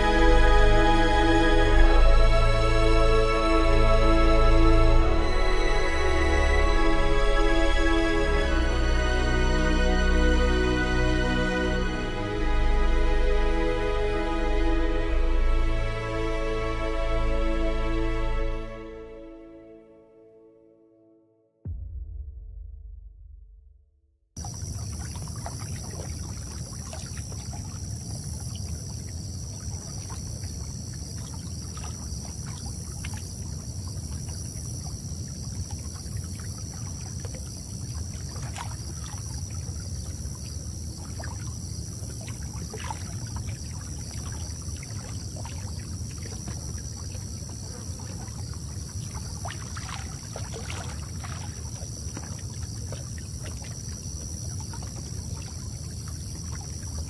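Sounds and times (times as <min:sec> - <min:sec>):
water splashes and drips: 0:00.0 - 0:17.7, 0:24.4 - 0:57.0
water rumbling: 0:00.0 - 0:19.4, 0:24.4 - 0:57.0.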